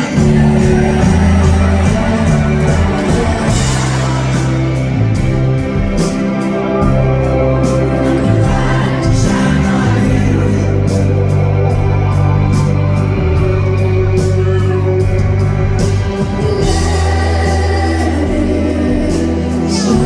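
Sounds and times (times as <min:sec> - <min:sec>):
low bass notes: 0:00.0 - 0:20.0
rock band playing live: 0:00.0 - 0:20.0.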